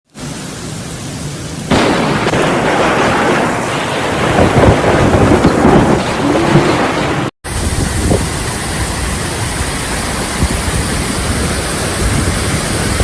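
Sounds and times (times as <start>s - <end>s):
steady rain: 0.1s - 13.0s
thunder crack and rumbling: 1.7s - 13.0s.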